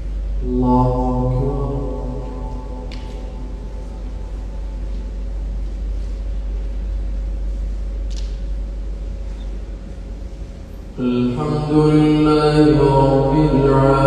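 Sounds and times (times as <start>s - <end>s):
room noise rumble: 0.0s - 14.0s.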